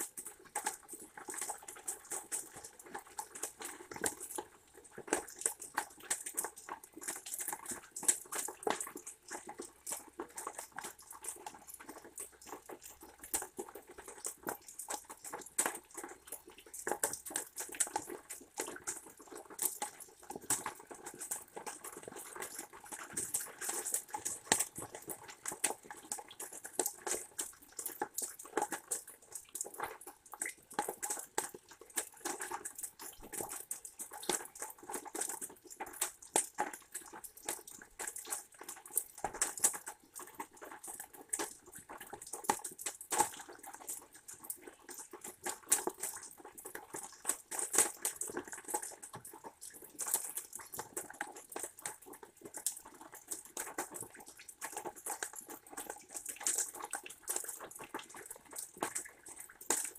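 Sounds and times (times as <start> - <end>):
rain dripping and pattering: 0.0 - 59.9.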